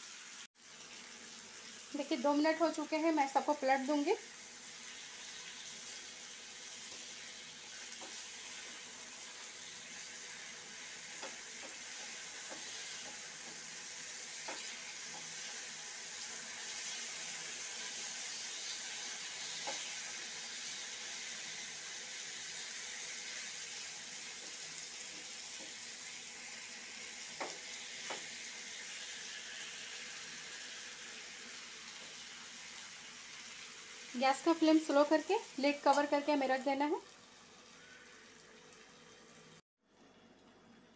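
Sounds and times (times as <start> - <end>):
potato slices sizzling in oil: 0.0 - 39.6.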